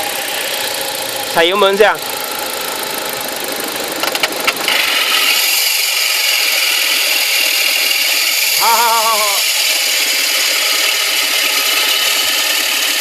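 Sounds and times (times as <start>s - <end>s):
car engine rattling: 0.0s - 13.0s.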